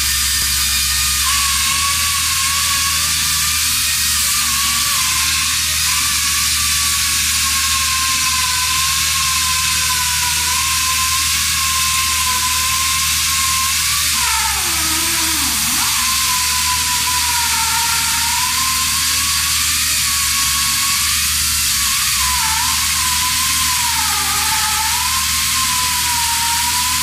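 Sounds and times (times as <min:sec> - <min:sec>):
pneumatic chain saw cutting concrete: 0:00.0 - 0:27.0.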